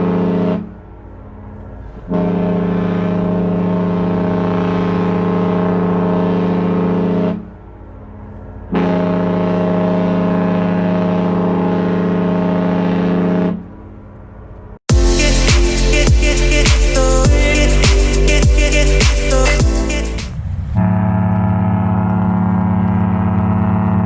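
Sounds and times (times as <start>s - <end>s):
deep ship horn blasts: 0.0s - 14.0s, 14.9s - 24.0s.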